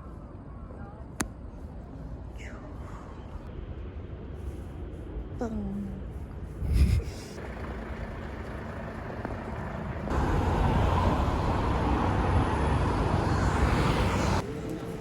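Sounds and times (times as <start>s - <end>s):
traffic rumble and hiss: 0.1s - 15.0s.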